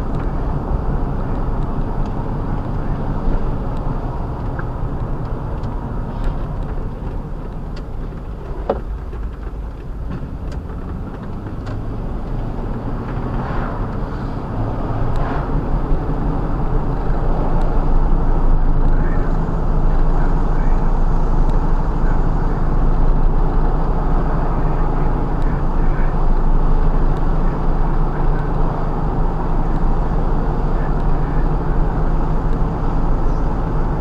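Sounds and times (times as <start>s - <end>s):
truck engine running: 0.0s - 34.0s.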